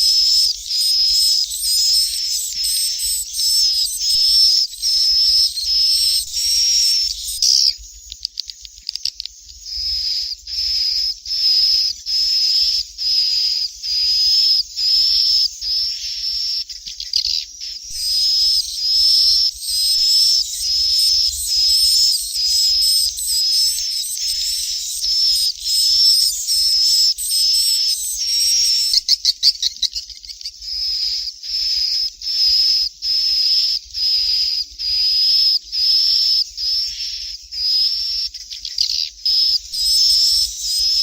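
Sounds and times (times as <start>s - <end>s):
high bird chick chirps: 0.0s - 41.0s.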